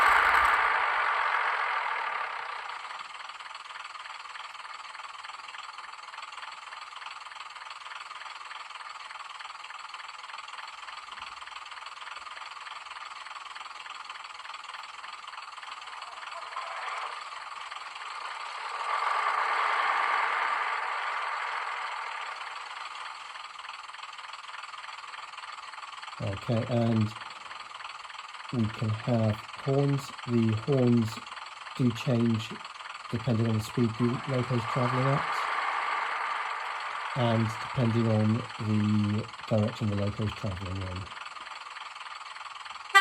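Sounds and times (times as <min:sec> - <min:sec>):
diesel engine sound from small speaker: 0:00.0 - 0:43.0.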